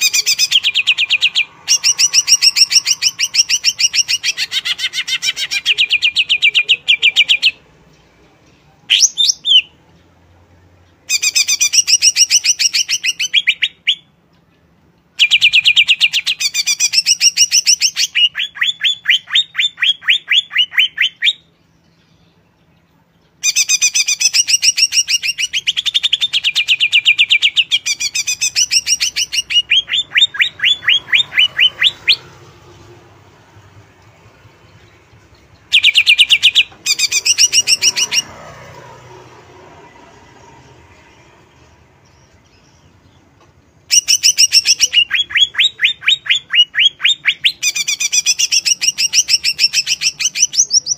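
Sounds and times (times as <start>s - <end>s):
bird singing rapid sharp notes: 0.0s - 7.7s, 10.9s - 50.9s.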